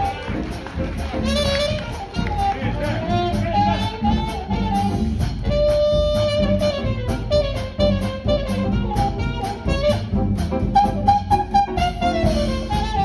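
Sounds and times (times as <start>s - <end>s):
jazz band playing: 0.0s - 13.0s
trumpet melody: 0.0s - 13.0s.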